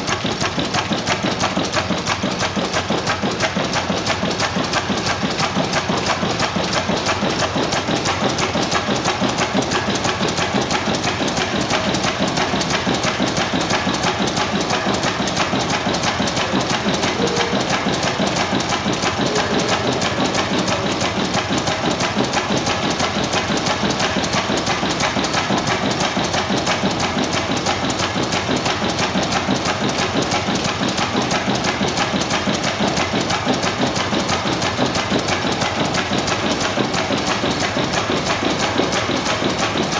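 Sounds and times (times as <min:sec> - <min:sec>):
stationary gas engine running: 0:00.0 - 0:39.9.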